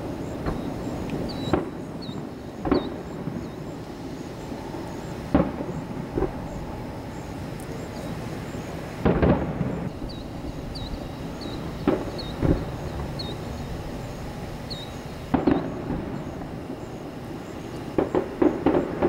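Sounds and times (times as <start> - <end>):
firework shells bursting: 0.0 - 19.0
low outdoor rumble: 0.0 - 19.0.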